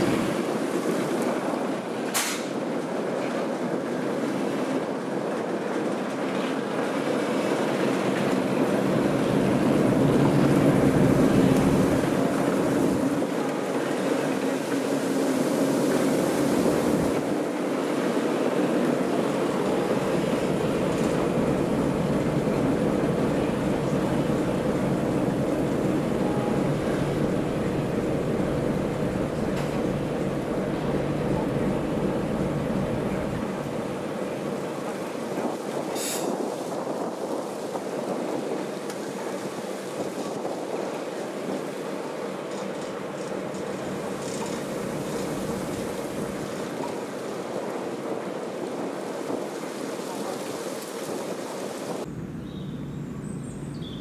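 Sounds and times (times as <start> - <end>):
diesel locomotive engine rumble: 0.0 - 54.0
wind rushing on microphone: 0.0 - 54.0.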